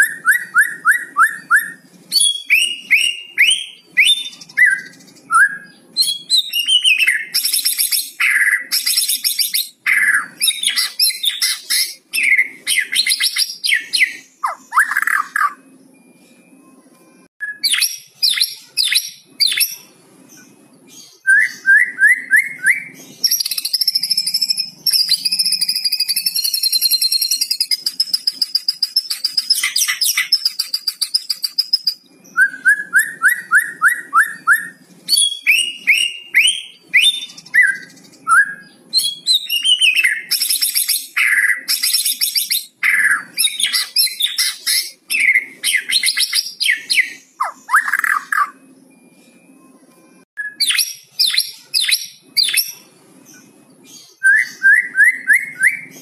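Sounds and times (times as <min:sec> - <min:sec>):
songbird singing and chattering: 0:00.0 - 0:15.7, 0:17.4 - 0:48.8, 0:50.4 - 0:56.0.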